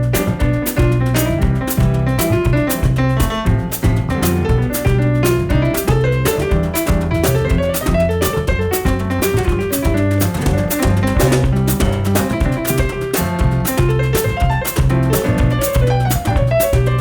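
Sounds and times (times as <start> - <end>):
bass: 0.0 - 17.0
drum kit steady beat: 0.0 - 17.0
piano: 0.0 - 17.0.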